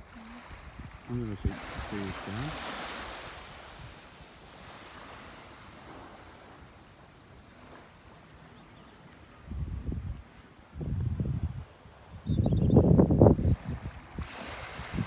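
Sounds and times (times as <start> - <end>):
faint sea surf on shore: 0.0 - 12.2, 12.8 - 15.0.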